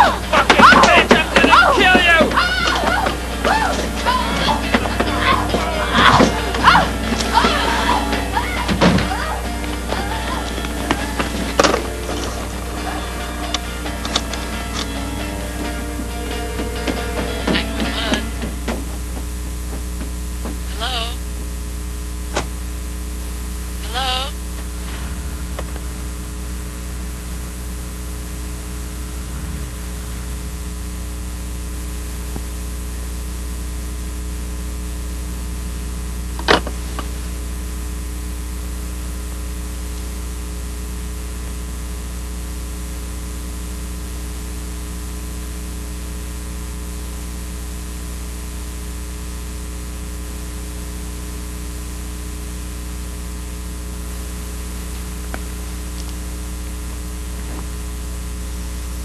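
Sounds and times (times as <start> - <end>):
mains hum with hiss: 0.0 - 59.0.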